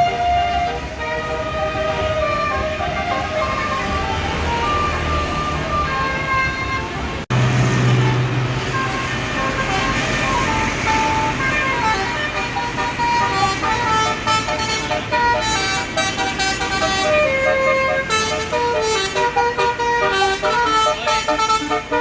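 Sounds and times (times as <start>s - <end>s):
bus horn playing a tune: 0.0s - 22.0s.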